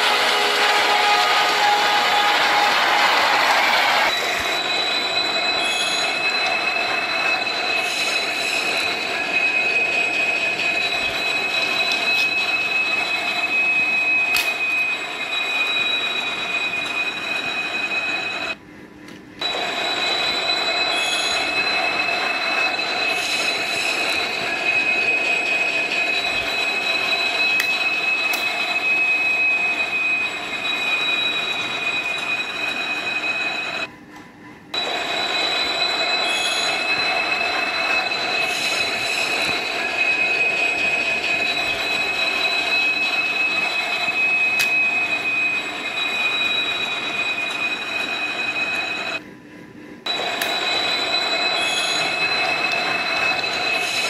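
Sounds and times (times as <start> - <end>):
train wheels squealing: 0.0 - 18.6, 19.4 - 49.2, 50.1 - 54.0
train rumble: 0.0 - 54.0.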